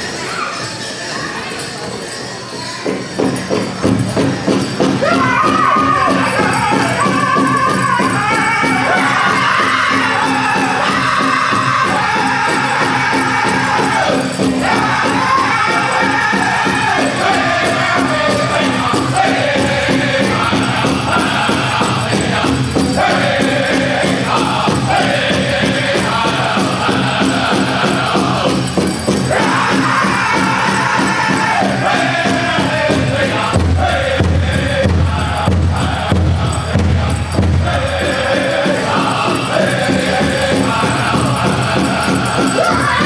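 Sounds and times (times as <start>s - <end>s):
fast steady drum beat: 3.2s - 43.0s
group of voices singing: 4.1s - 43.0s.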